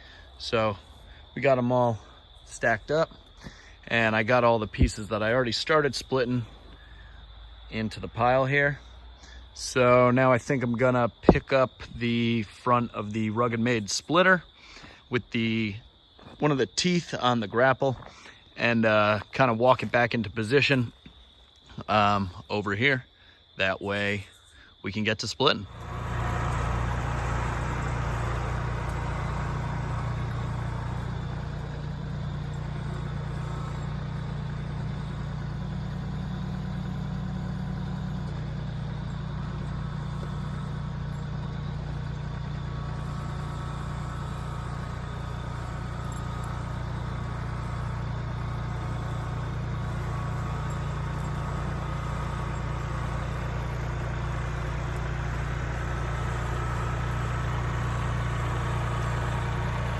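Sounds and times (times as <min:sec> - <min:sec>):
tractor diesel engine running: 0:00.0 - 0:20.8, 0:25.5 - 0:59.9.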